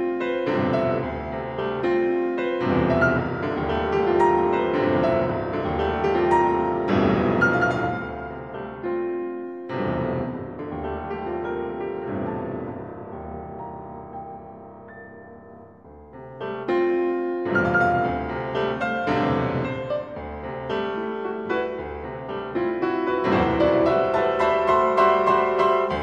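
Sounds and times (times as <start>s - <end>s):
solo piano contemporary piece: 0.0s - 26.0s.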